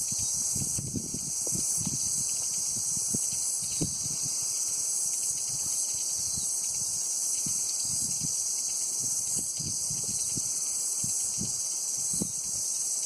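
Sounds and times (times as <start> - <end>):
insects shrilling: 0.0 - 13.0.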